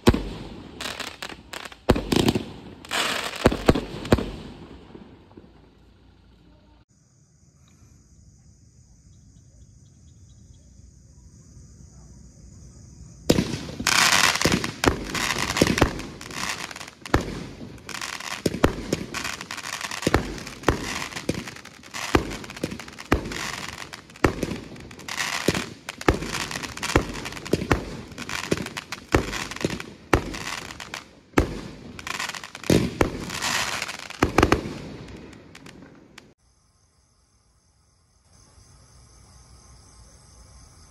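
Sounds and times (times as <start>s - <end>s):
faint crickets chirping: 0.0s - 40.9s.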